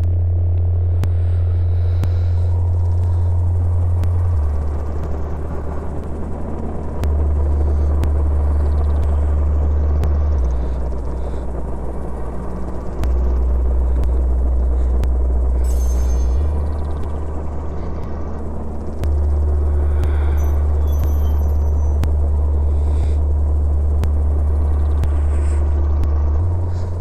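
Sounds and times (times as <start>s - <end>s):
low droning hum: 0.0s - 27.0s
rumbling hiss: 0.4s - 27.0s.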